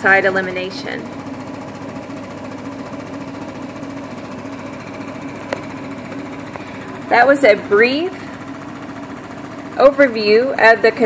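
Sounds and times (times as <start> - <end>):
ventilator mechanical buzz: 0.0 - 11.0.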